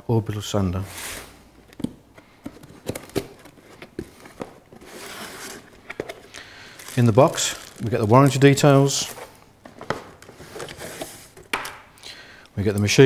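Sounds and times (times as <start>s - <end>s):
packaging rustling: 1.0s - 11.8s.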